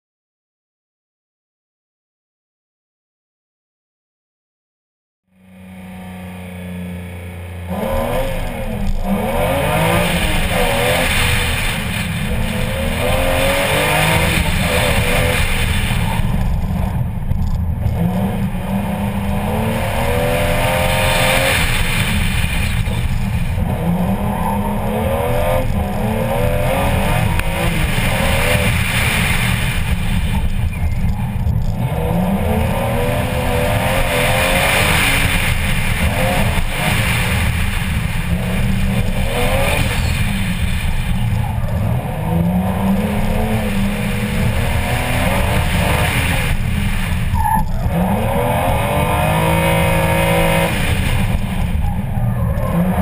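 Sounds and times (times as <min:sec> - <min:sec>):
car engine accelerating hard: 0:05.3 - 0:53.0.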